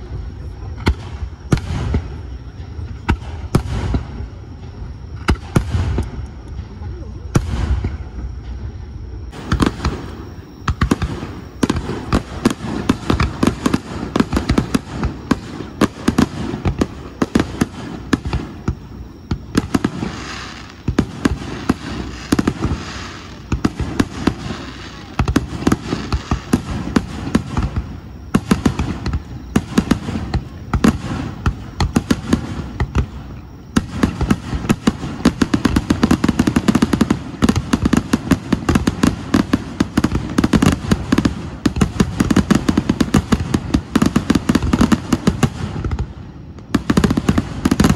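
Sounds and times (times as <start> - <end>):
fireworks bursting and crackling: 0.0 - 47.9.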